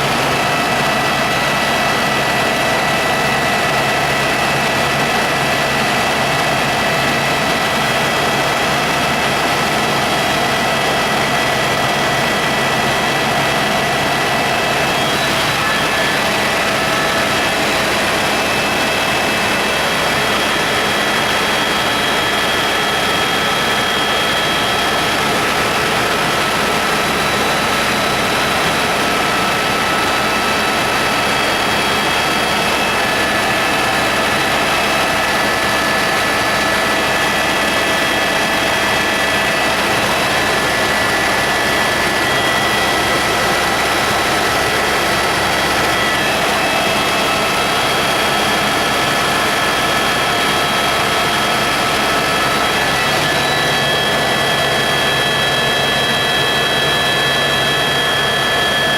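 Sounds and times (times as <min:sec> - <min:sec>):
helicopter engine and rotor noise: 0:00.0 - 0:58.9
high whining tones: 0:09.6 - 0:58.9.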